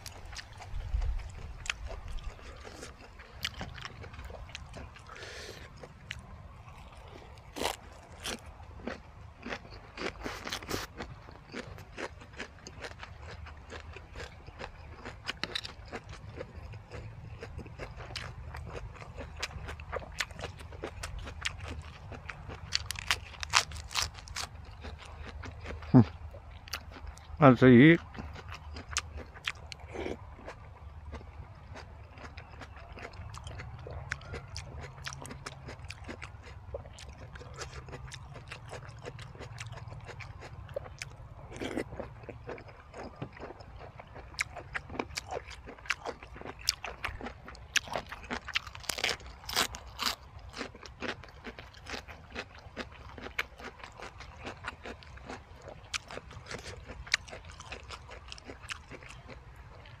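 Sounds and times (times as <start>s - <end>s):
chewing and crunching: 0.0s - 60.0s.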